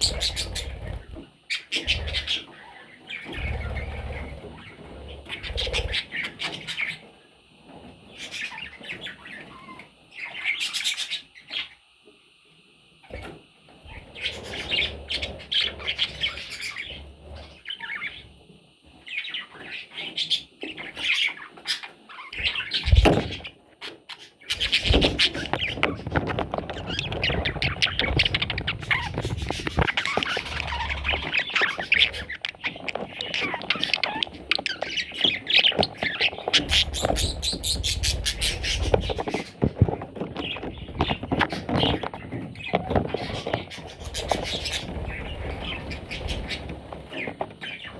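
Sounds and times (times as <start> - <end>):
budgie chicks squawking and chirping: 0.0 - 11.8, 13.0 - 47.9.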